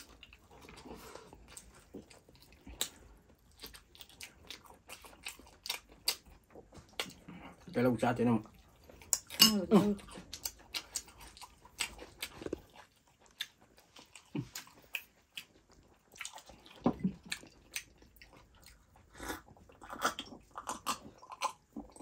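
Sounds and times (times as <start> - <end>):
people chewing and biting: 0.0 - 7.8, 8.4 - 22.0.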